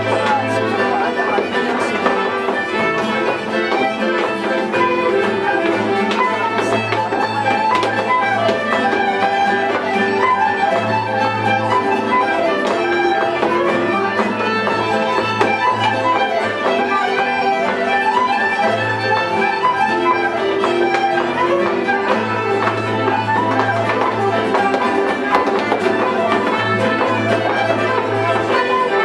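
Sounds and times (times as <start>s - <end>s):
dance steps tapping on wooden floor: 0.0s - 29.0s
fiddle melody: 0.0s - 29.0s
traditional dance tune: 0.0s - 29.0s.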